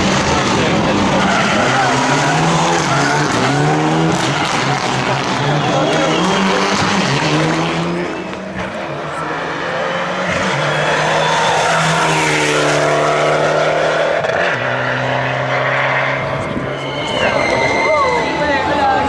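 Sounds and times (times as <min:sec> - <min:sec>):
rally car engine running hard: 0:00.0 - 0:16.7.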